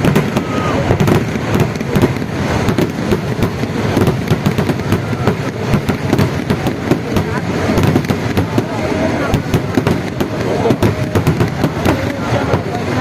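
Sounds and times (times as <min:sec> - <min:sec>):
firecracker barrage: 0:00.0 - 0:13.0.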